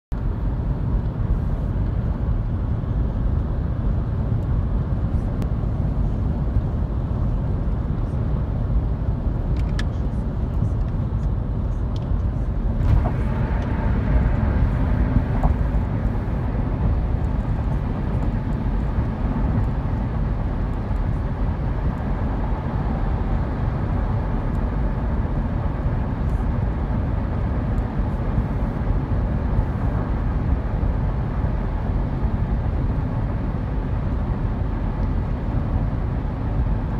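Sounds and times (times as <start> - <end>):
freeway traffic rumble: 0.1 - 36.9.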